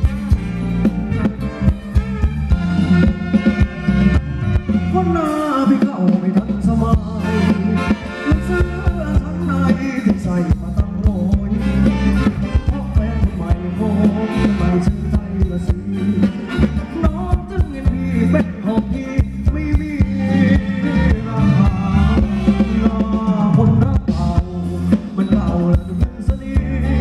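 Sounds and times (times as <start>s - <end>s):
dance-band music with driving beat: 0.0s - 27.0s.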